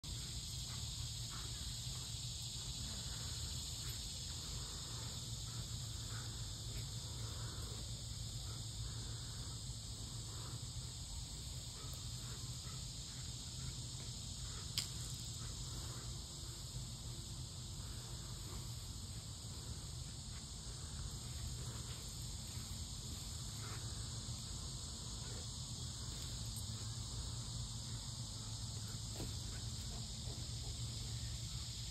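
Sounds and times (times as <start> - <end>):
high-pitched outdoor hiss: 0.0 - 31.9.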